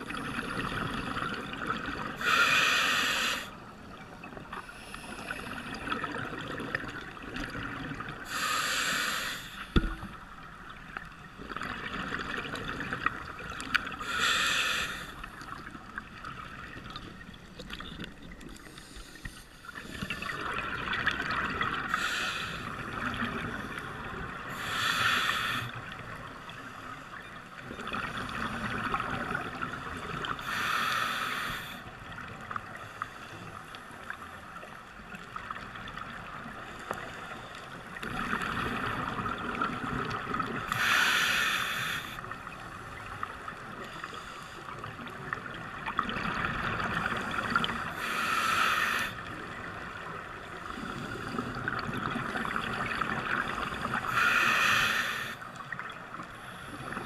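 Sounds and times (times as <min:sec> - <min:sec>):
underwater hiss and crackle: 0:00.0 - 0:57.0.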